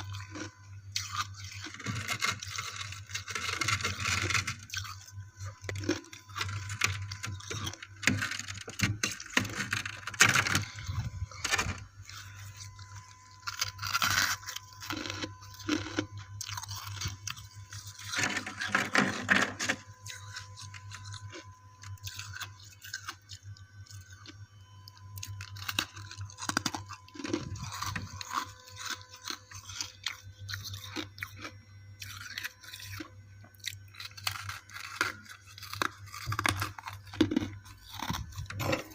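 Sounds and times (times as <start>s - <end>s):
chewing ice crunches: 0.0s - 38.9s.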